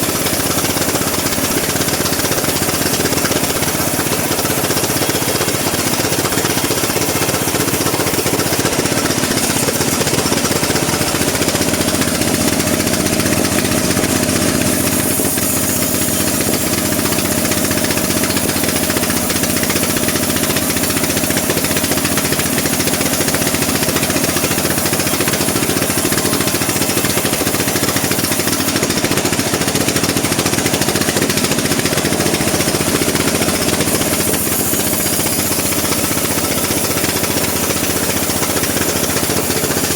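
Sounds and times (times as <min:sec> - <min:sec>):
bandsaw sawing wood: 0:00.0 - 0:39.9.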